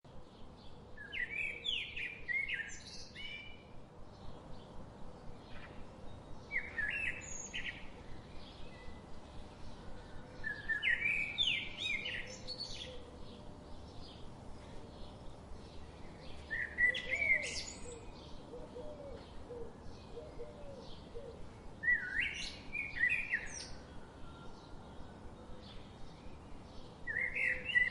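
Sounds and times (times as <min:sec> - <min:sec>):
birds chirping: 0:04.1 - 0:27.9.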